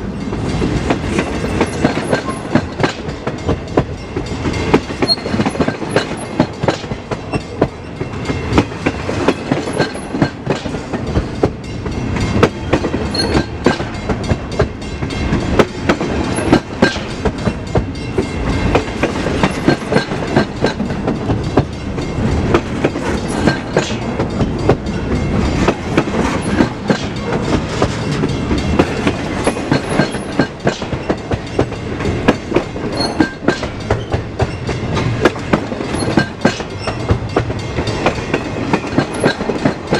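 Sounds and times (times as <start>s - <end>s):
freight train rolling past: 0.0s - 39.9s
wheels clicking over rail joints: 0.1s - 39.9s.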